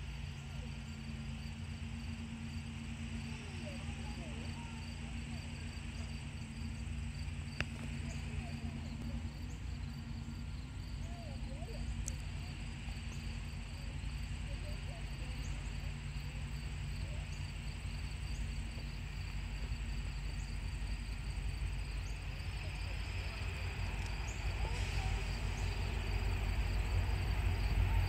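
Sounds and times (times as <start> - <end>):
insects trilling: 0.0 - 28.0
low rumble and hum: 0.0 - 28.0.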